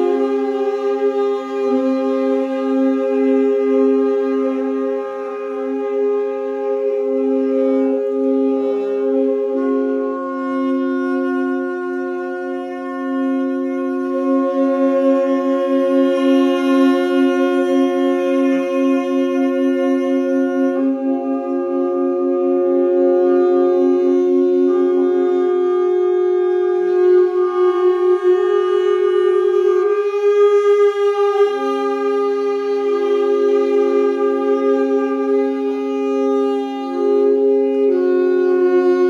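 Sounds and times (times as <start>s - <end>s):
tenor saxophones holding drone chord: 0.0s - 39.0s.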